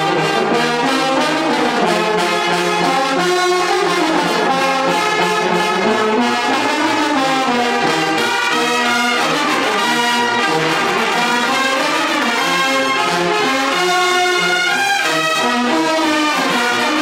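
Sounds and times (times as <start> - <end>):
brass band playing a march: 0.0 - 17.0.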